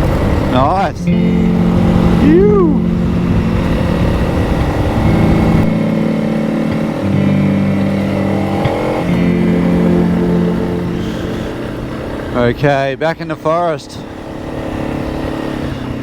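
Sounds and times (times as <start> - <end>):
motorcycle engine running: 0.0 - 12.9, 13.9 - 16.0.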